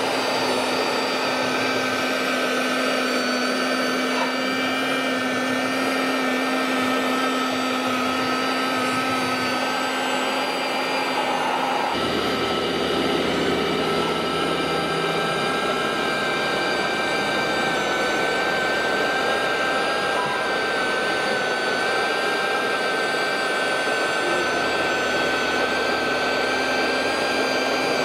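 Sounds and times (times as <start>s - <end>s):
electric motors whirring and whining: 0.0s - 28.0s.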